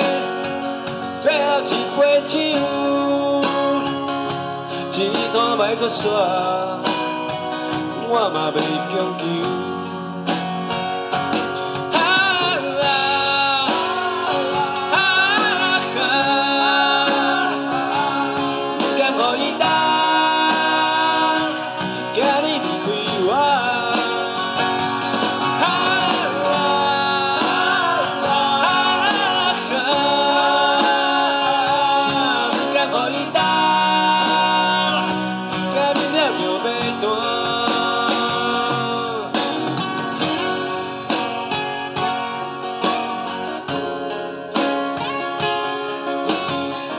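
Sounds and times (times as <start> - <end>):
man singing: 0.0 - 41.6
acoustic guitars: 0.0 - 46.9.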